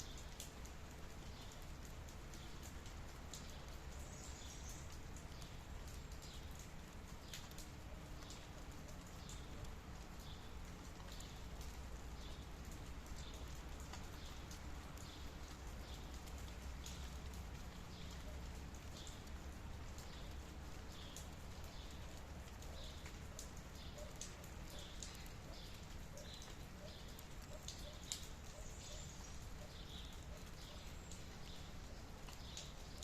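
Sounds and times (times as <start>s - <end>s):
light rain dripping: 0.0s - 33.0s.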